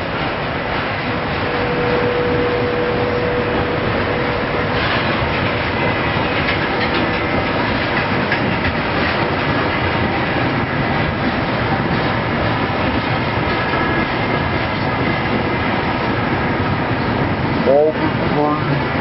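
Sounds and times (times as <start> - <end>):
steady whine: 0.0 - 15.5
train wheels rumbling on rail: 0.0 - 19.0
wheels clacking over rail joints: 0.0 - 19.0.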